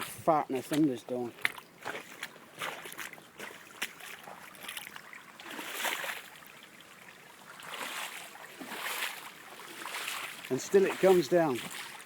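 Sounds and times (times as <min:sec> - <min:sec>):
floodwater rushing: 0:00.0 - 0:12.0
small water splashes: 0:00.0 - 0:12.0.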